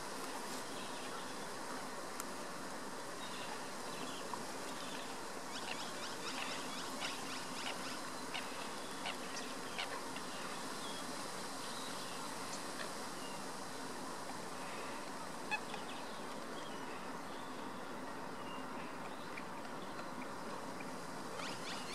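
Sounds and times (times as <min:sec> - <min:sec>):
steady outdoor hiss: 0:00.0 - 0:21.9.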